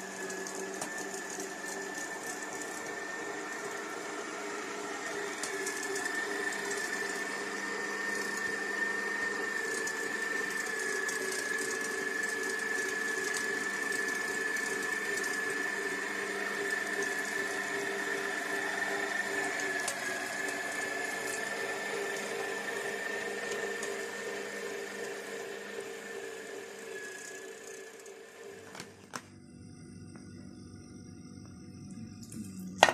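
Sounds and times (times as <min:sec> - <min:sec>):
electric meat grinder whining: 0:00.0 - 0:30.7.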